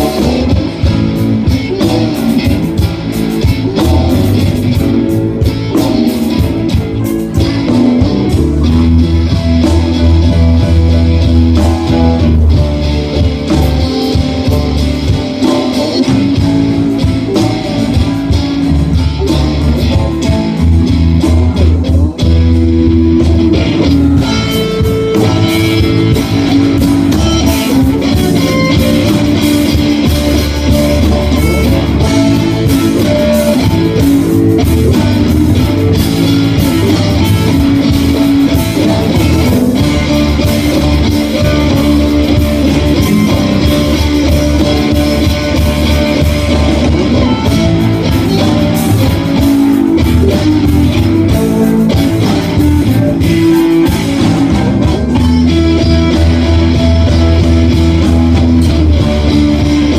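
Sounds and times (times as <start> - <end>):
blues band playing: 0.0 - 59.9.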